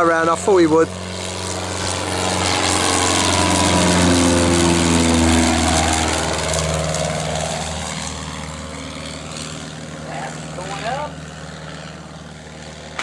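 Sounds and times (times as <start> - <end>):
light aircraft engine passing by: 0.0 - 13.0.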